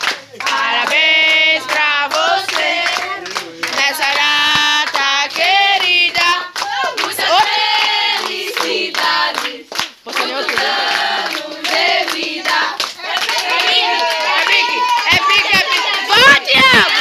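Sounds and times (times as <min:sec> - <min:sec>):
hand clapping: 0:00.0 - 0:17.0
young voices singing: 0:00.4 - 0:17.0.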